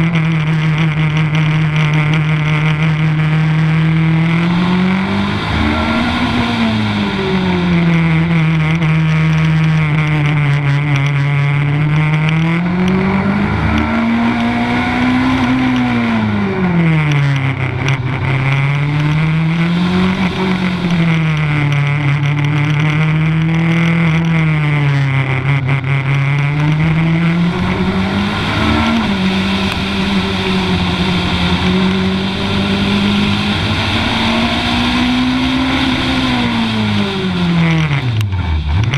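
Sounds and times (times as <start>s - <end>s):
race car engine accelerating: 0.0s - 38.9s.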